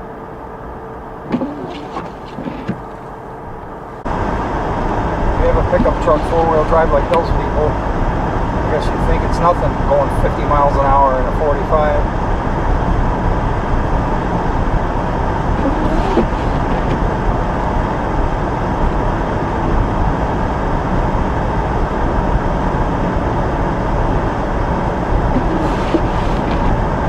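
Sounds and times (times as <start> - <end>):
car road noise rumble: 0.0 - 27.0.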